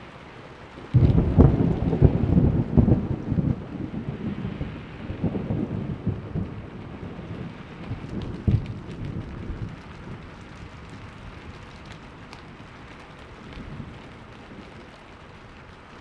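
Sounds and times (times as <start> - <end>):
raindrops ticking: 0.0 - 16.0
steady rain: 0.0 - 16.0
thunder rumbling: 0.6 - 16.0.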